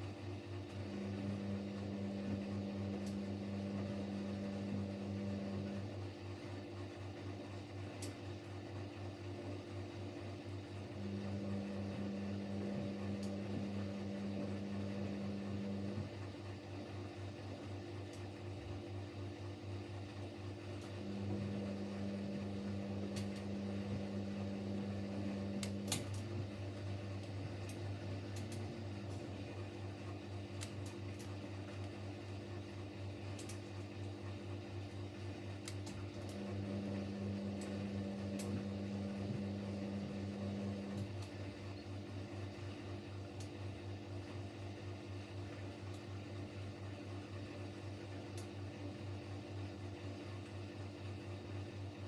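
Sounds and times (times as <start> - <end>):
washing machine spinning: 0.0 - 52.0.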